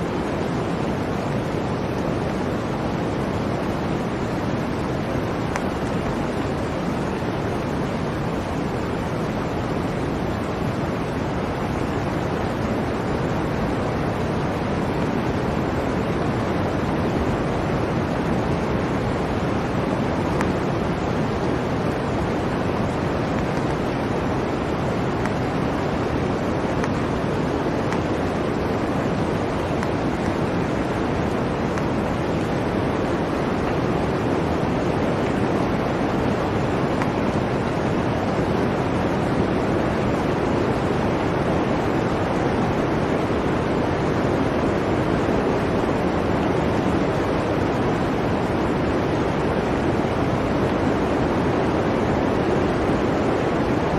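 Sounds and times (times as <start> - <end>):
blizzard wind rushing: 0.0 - 53.9.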